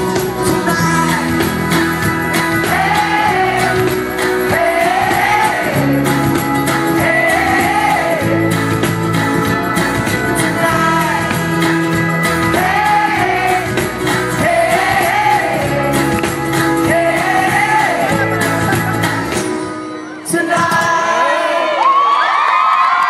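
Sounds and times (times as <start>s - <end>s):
crowd cheering and whooping: 0.0s - 8.6s, 9.4s - 23.0s
live pop-rock band playing: 0.0s - 21.5s
wordless sung vocals: 0.0s - 22.0s.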